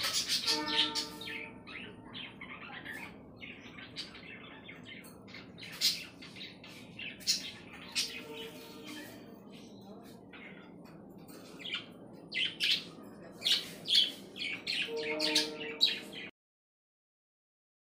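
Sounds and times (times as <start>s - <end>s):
budgerigars chirping and squawking: 0.0s - 16.3s.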